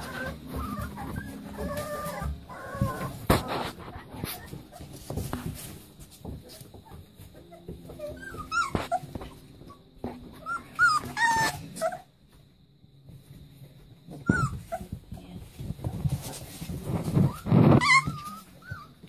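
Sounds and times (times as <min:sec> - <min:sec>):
puppies whimpering and squeaking: 0:00.0 - 0:12.2, 0:14.1 - 0:19.0.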